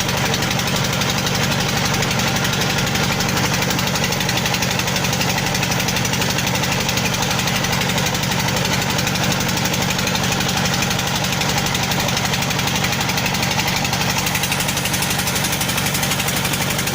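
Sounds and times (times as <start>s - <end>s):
engine running with rapid knocking: 0.0s - 16.9s.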